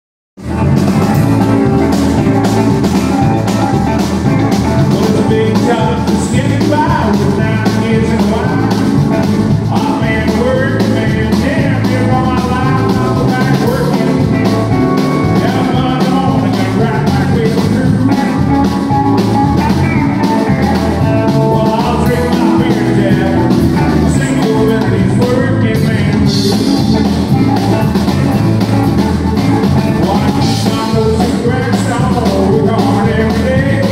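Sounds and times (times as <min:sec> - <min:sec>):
country band playing: 0:00.4 - 0:33.9
man singing: 0:00.9 - 0:33.9.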